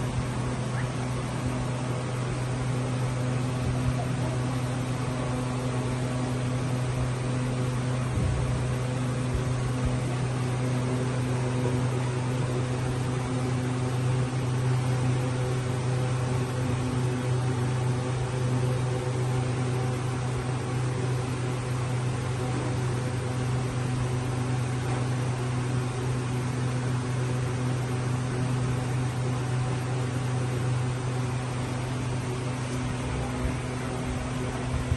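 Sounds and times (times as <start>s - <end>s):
low machine hum: 0.0s - 34.9s.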